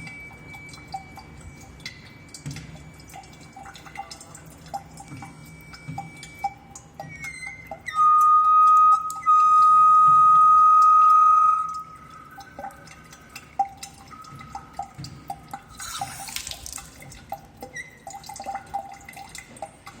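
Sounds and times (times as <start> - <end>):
water dripping: 0.0 - 20.0
water tap whistling: 0.0 - 20.0.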